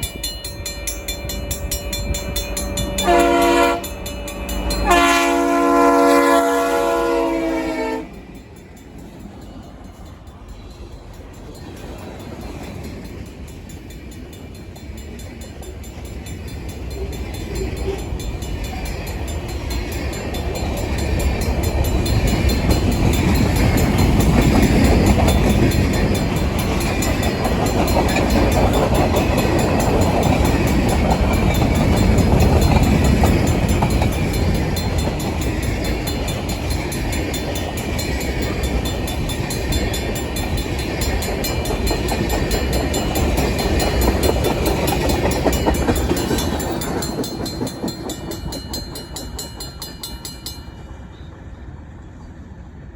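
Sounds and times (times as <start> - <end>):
crossing bell ringing rapidly: 0.0 - 51.5
freight train rumbling and clacking: 0.0 - 52.9.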